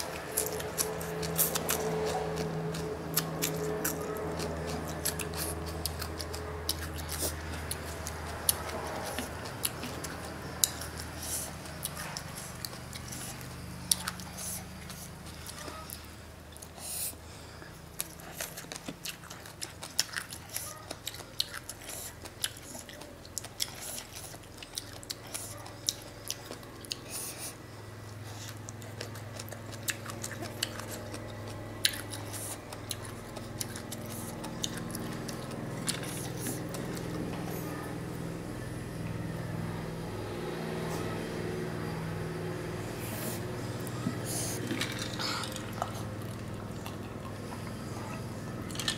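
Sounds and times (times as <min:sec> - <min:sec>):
chewing and crunching food: 0:00.0 - 0:48.9
low steady hum: 0:00.0 - 0:48.9.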